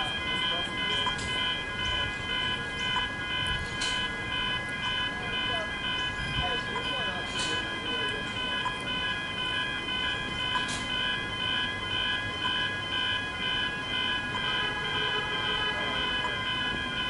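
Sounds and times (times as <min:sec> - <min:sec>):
level crossing bells ringing: 0:00.0 - 0:17.0.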